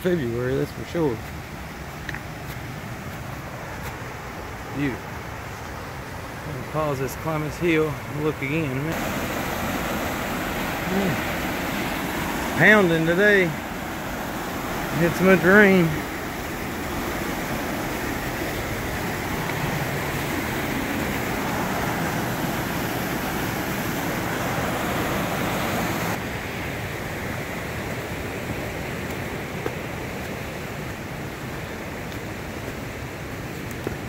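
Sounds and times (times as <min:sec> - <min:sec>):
creek water rushing: 0:00.0 - 0:34.0.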